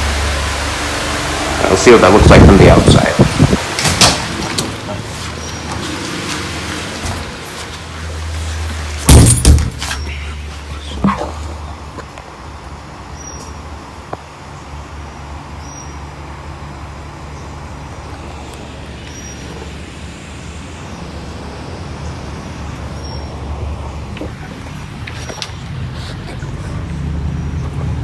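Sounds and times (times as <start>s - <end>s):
ceiling fan air rushing: 0.0s - 10.8s, 12.2s - 28.0s
low motor hum: 0.0s - 28.0s.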